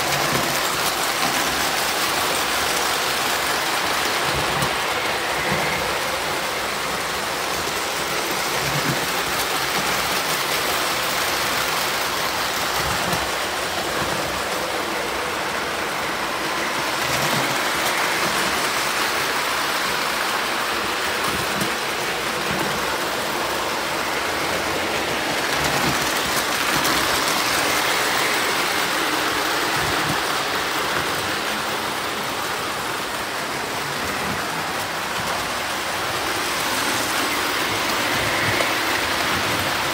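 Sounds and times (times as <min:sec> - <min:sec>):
toy train wheels rumbling on rails: 0:00.0 - 0:39.9.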